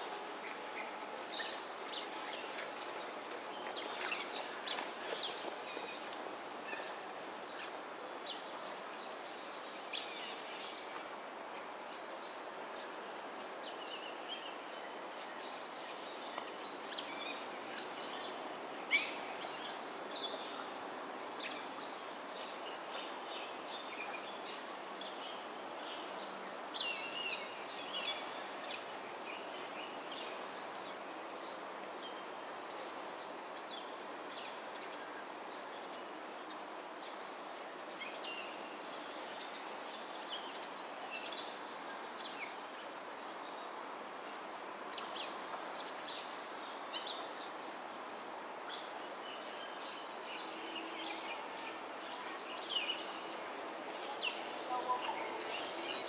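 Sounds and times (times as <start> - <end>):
high-pitched insect chorus: 0.0 - 56.0
steady background hiss: 0.0 - 56.0.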